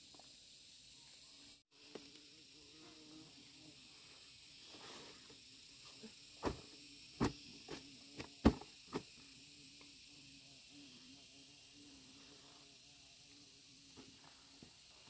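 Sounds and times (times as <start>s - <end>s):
insects hissing: 0.0s - 15.0s.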